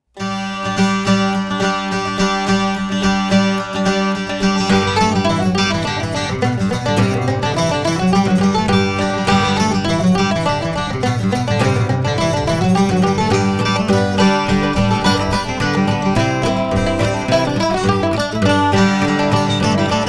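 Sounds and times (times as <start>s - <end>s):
banjo-like plucked strings: 0.1s - 20.0s.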